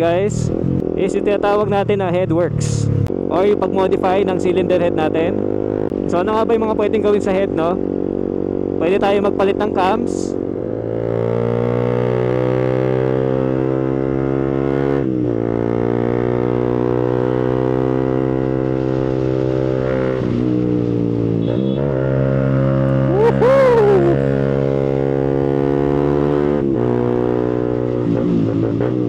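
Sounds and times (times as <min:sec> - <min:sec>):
motorcycle engine at speed: 0:00.4 - 0:29.0.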